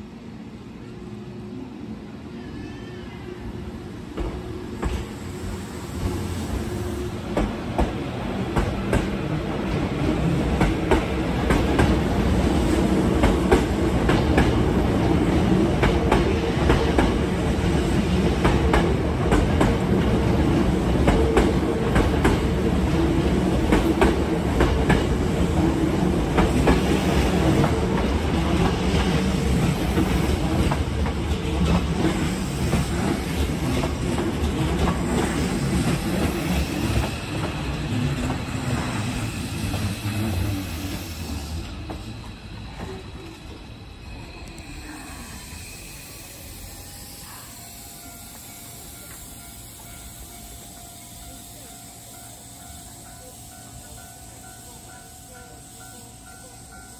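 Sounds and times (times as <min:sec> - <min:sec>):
electric train rumbling past: 0:00.0 - 0:56.9.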